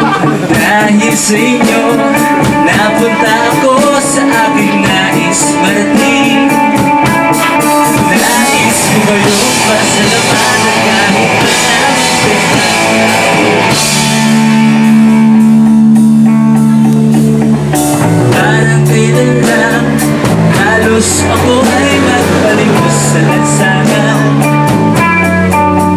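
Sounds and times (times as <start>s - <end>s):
man singing lead vocals: 0.0s - 14.5s, 17.9s - 25.3s
drum kit: 0.0s - 25.9s
electric guitars: 0.0s - 25.9s.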